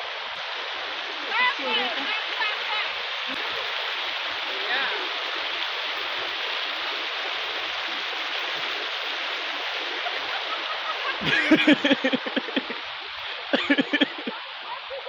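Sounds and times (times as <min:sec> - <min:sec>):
water flowing over rocks: 0:00.0 - 0:15.0.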